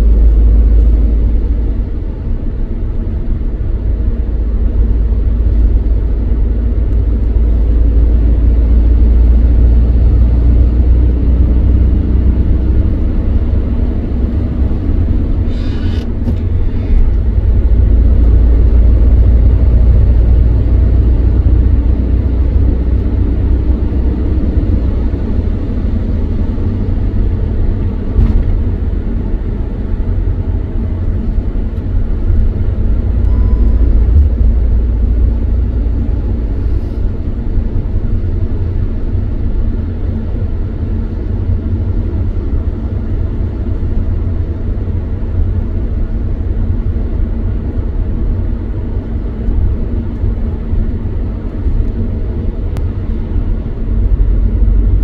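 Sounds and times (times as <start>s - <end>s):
vehicle engine rumble: 0.0s - 55.0s.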